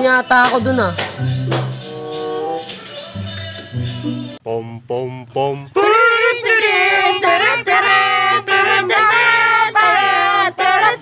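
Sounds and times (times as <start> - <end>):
voices singing long notes: 1.0 - 11.0.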